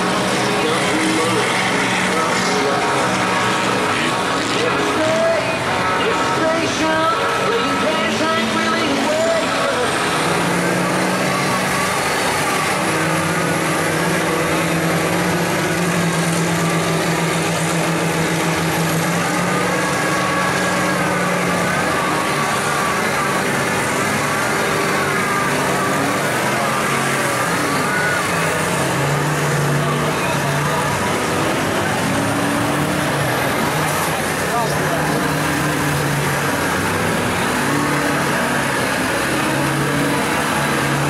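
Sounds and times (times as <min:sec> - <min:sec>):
heavy truck engine drone: 0:00.0 - 0:41.0
wavering engine whine: 0:00.0 - 0:41.0.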